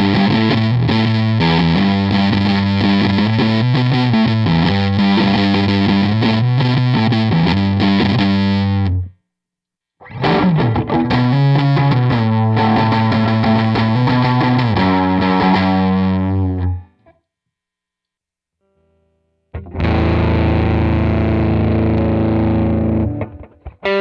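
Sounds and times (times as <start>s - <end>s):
distorted electric guitar: 0.0s - 9.2s, 10.0s - 17.1s, 18.7s - 24.0s.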